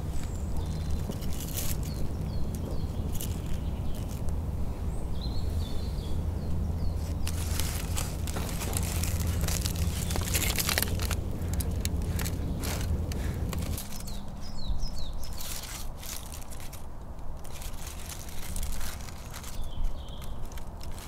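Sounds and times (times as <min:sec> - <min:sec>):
steady low rumble: 0:00.0 - 0:21.0
aluminium foil crinkling: 0:00.2 - 0:04.3, 0:07.0 - 0:21.0.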